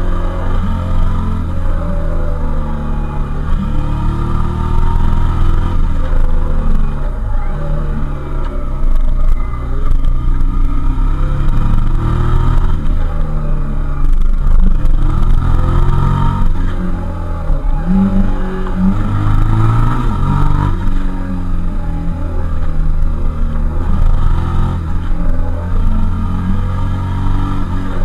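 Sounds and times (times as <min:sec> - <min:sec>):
motorcycle engine while riding: 0:00.0 - 0:28.0.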